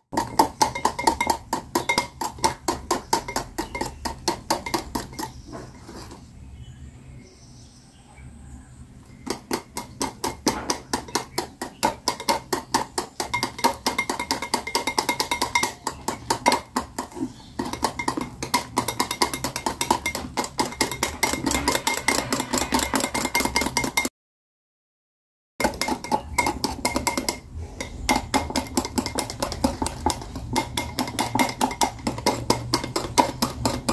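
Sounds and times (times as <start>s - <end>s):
whisk scraping glass bowl: 0.1s - 6.3s, 9.5s - 24.1s, 25.6s - 33.9s.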